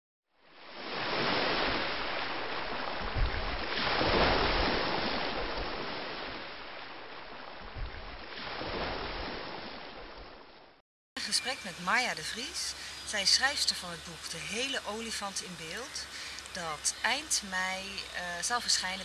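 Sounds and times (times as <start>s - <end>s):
ocean waves washing in: 0.4s - 19.0s.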